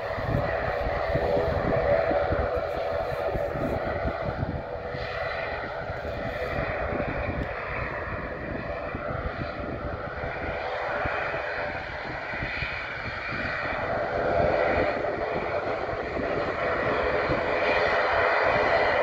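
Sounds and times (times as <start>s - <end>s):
turboprop engines droning: 0.0s - 19.0s
wind buffeting microphone: 0.0s - 19.0s.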